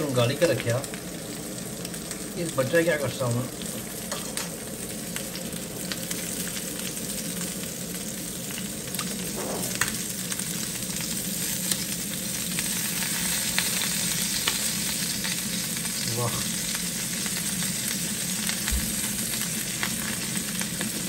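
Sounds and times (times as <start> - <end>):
chicken sizzling on grill pan: 0.0 - 21.0.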